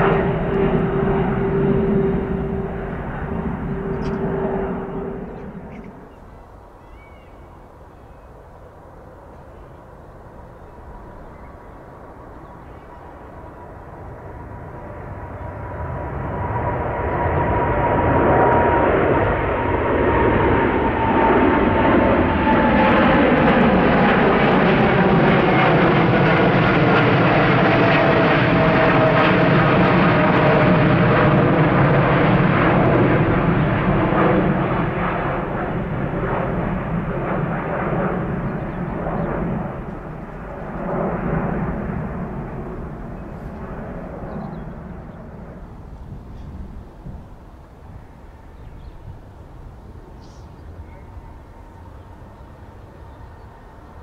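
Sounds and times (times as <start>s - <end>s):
jet plane passing overhead: 0.0s - 54.0s.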